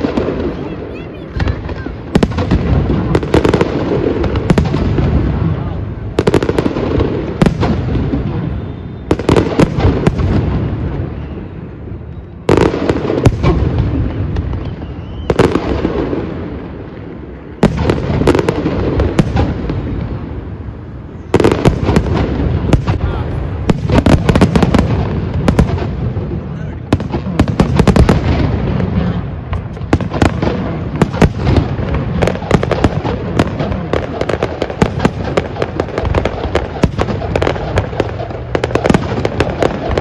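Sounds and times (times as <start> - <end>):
fireworks bursting with loud bangs: 0.0 - 40.0
fireworks crackling: 0.0 - 40.0.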